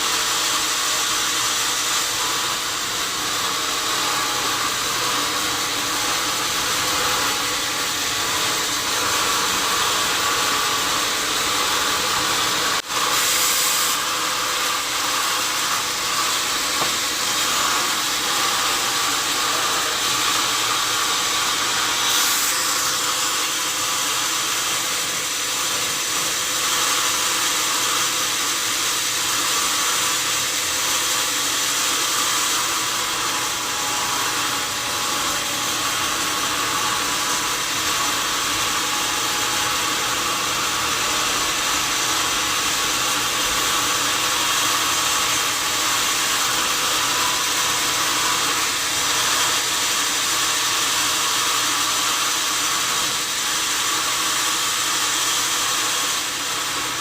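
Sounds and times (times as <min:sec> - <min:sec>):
saw cutting log: 0:00.0 - 0:57.0.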